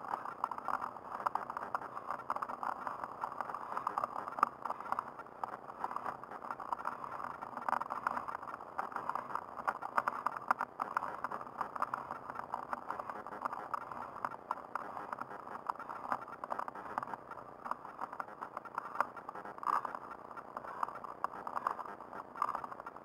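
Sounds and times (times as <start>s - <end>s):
rattles and clicks from road: 0.0s - 23.0s.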